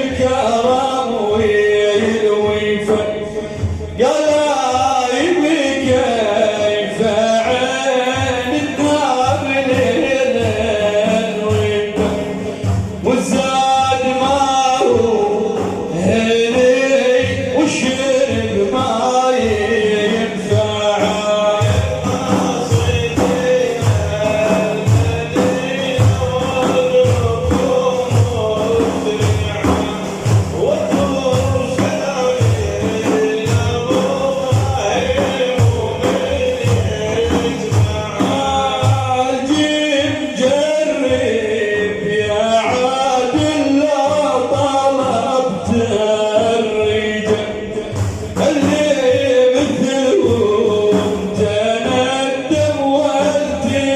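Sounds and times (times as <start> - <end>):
frame drums beating: 0.0 - 53.9
men chanting in unison: 0.0 - 53.9.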